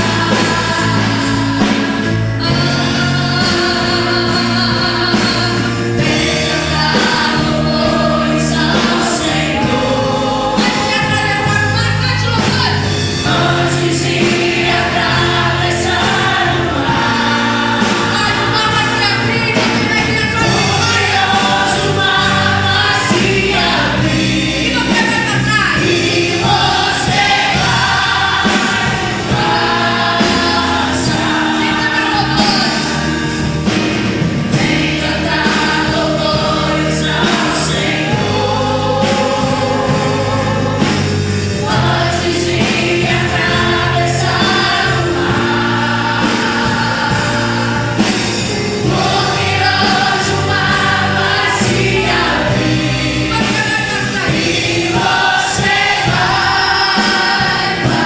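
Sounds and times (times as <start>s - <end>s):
choir singing gospel song: 0.0s - 58.0s.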